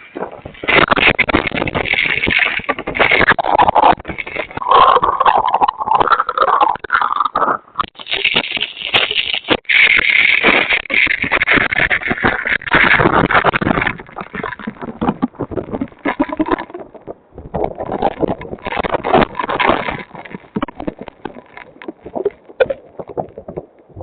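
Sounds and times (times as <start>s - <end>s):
wind buffeting a microphone: 0.0s - 5.9s, 7.4s - 24.0s.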